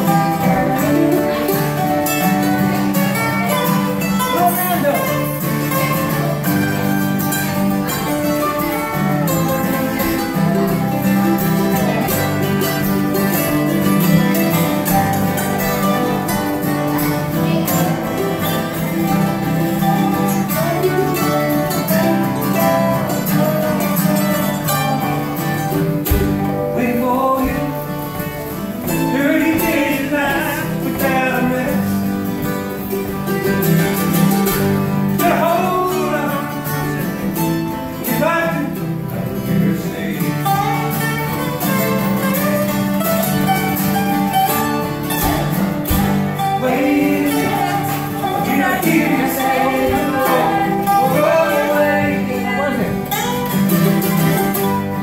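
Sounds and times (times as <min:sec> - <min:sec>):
person singing: 0:00.0 - 0:25.6, 0:26.4 - 0:32.2, 0:34.7 - 0:42.9, 0:45.8 - 0:55.0
mandolin: 0:00.0 - 0:55.0
slide guitar: 0:00.0 - 0:55.0
strummed acoustic guitars: 0:00.0 - 0:55.0.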